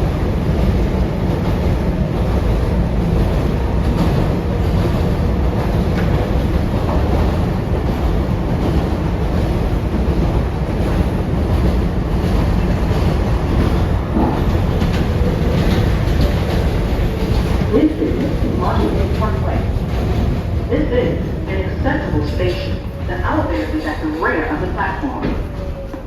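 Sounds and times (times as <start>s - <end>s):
subway wheels rumbling on rail: 0.0s - 26.0s.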